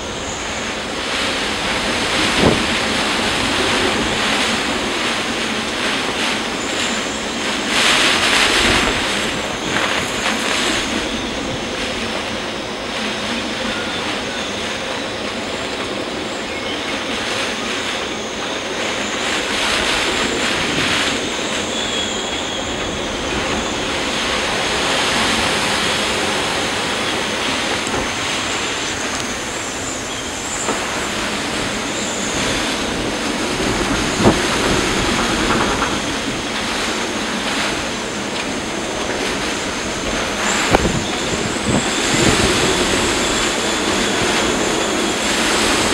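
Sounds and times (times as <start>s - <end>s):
heavy rain: 0.0s - 45.9s
storm wind: 0.0s - 45.9s
wind buffeting microphone: 0.0s - 45.9s.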